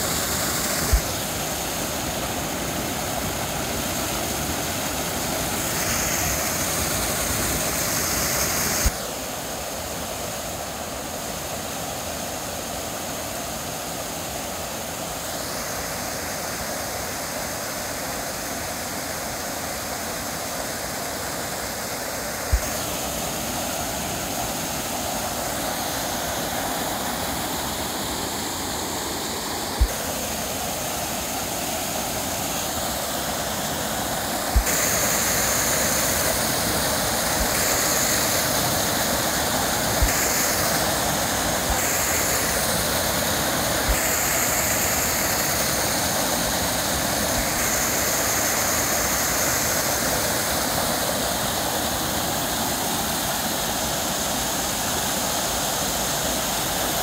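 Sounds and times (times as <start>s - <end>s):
waterfall splashing into pool: 0.0s - 9.1s, 18.8s - 57.0s.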